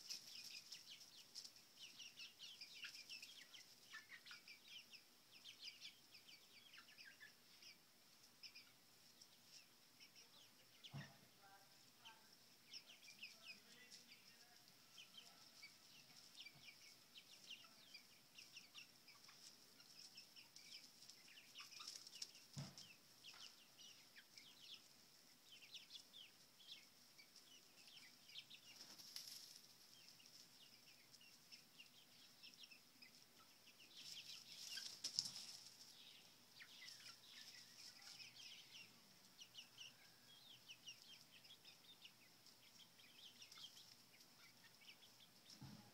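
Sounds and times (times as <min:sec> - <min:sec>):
chicks peeping and cheeping: 0:00.0 - 0:45.9.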